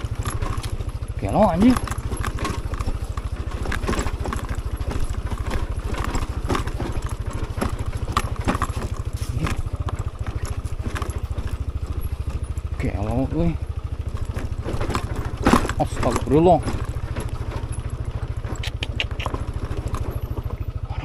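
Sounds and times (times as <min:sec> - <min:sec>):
motorcycle engine running: 0:00.0 - 0:21.0
motorcycle rattling over bumps: 0:00.0 - 0:21.0.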